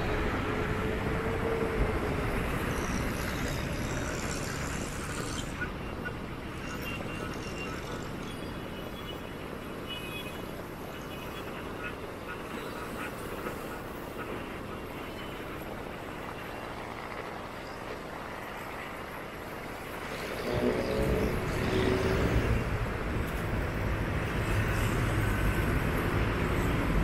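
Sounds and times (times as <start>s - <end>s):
passing vehicles rumble: 0.0s - 27.0s.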